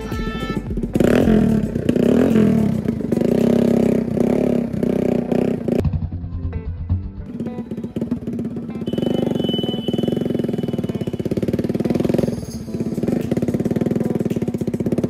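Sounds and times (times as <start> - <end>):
motorcycle exhaust beat: 0.0 - 15.0.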